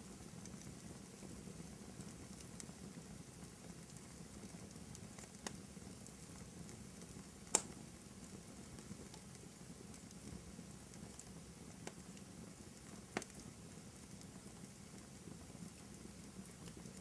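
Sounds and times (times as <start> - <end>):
fire popping: 0.0 - 17.0
wood fire crackling: 0.0 - 17.0.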